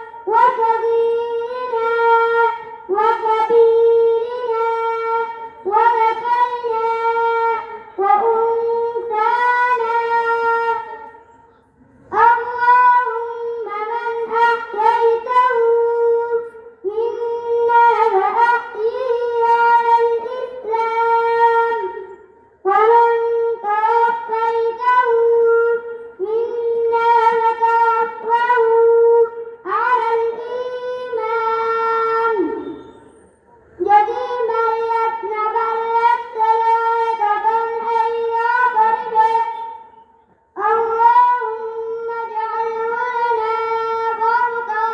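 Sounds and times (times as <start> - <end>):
boy chanting into microphone: 0.0 - 44.9.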